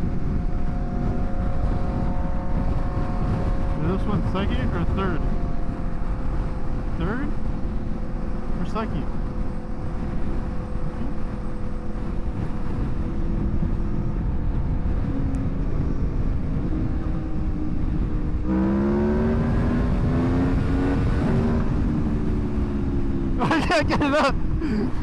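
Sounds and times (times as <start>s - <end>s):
motorcycle engine cruising: 0.0s - 25.0s
wind rush: 0.0s - 25.0s.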